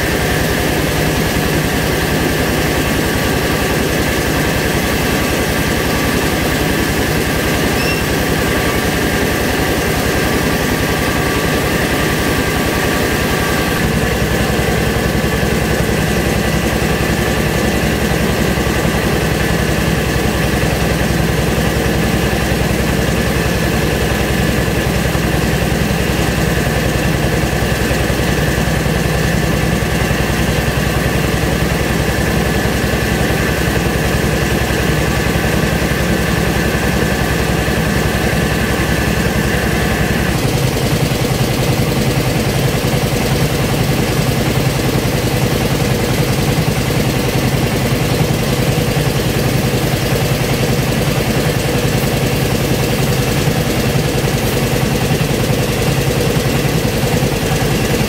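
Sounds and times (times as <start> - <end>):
rice milling machine drone: 0.0 - 58.0.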